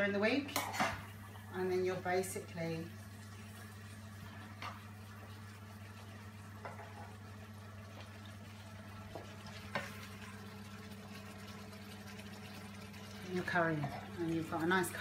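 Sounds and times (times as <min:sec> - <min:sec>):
curry sizzling in frying pan: 0:00.0 - 0:15.0.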